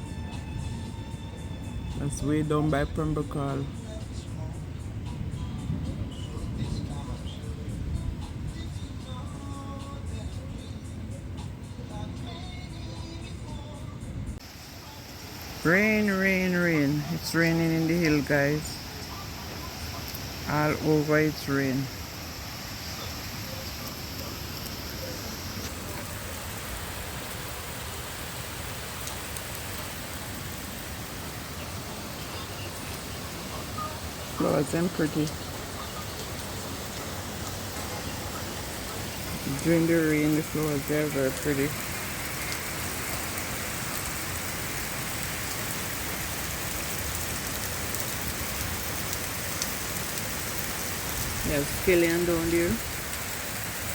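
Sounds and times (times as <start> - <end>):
heavy rain: 0.0 - 10.1, 14.4 - 53.9.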